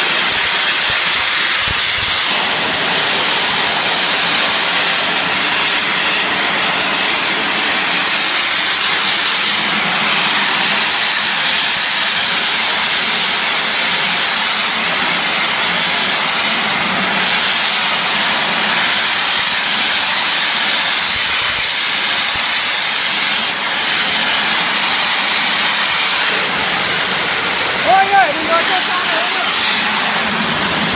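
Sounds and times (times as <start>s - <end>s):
pressure washer jet hissing: 0.0s - 30.9s.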